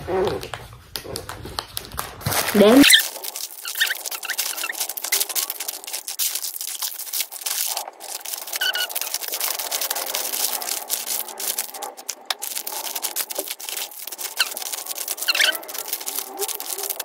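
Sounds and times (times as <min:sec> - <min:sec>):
plastic wrappers crinkling: 0:00.4 - 0:17.0.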